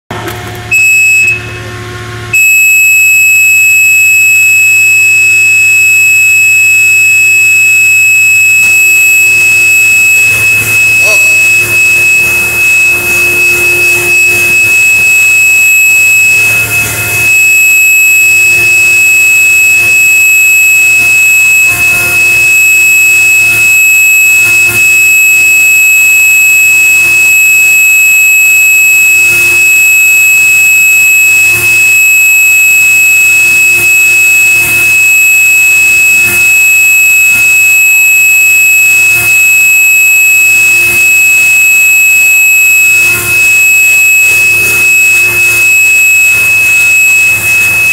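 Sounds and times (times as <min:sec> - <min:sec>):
high-pitched electronic buzzer tone: 0:02.3 - 0:47.9.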